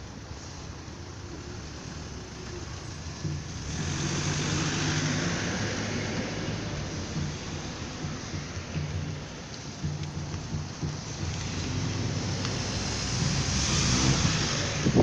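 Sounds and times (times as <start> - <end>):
car driving past: 1.6 - 15.0.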